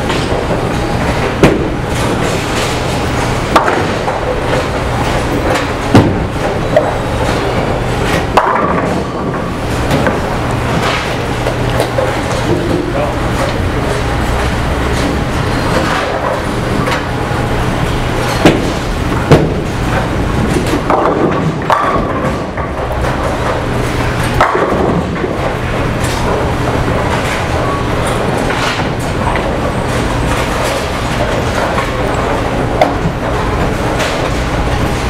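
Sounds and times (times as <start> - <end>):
bowling pins crashing: 0.0 - 14.6, 18.0 - 35.0
bowling balls rolling: 0.0 - 35.0
steady low hum: 0.0 - 35.0.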